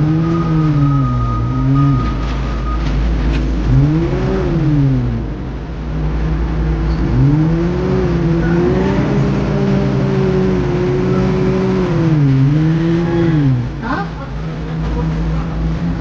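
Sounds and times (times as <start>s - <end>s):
diesel machinery engine revving: 0.0s - 16.0s.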